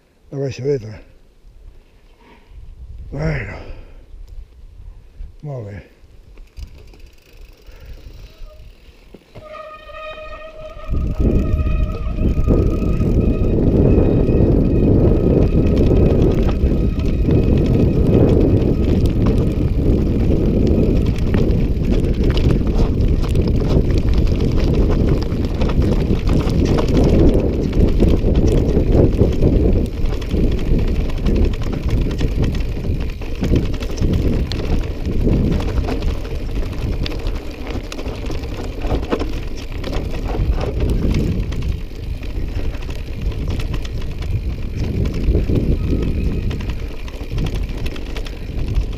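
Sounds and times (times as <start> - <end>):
wind buffeting microphone: 2.5 - 5.4, 9.4 - 48.9
bike rattling: 6.1 - 48.9
tyres rumbling over stones: 9.4 - 48.9.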